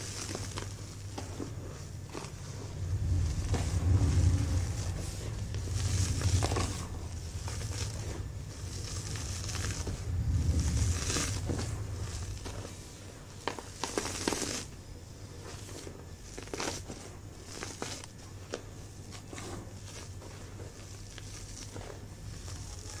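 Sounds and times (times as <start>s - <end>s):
hands crunching powdered chalk: 0.0s - 23.0s.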